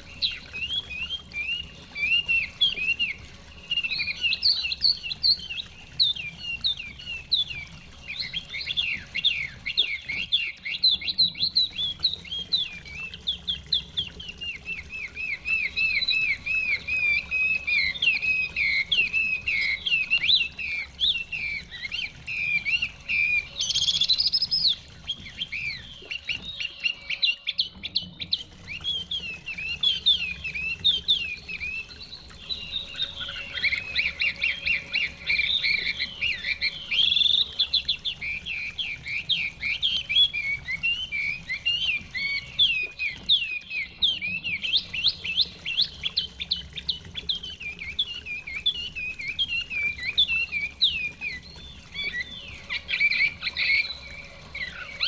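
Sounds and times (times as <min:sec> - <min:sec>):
songbird singing whistled notes: 0:00.0 - 0:55.0.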